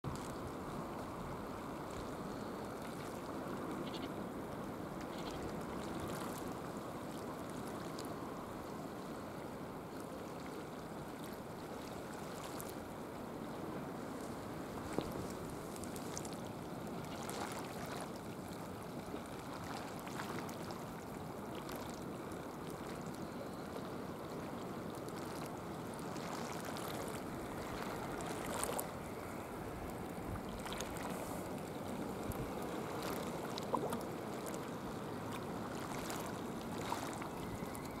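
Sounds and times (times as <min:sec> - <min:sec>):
sea water lapping: 0:00.0 - 0:38.0.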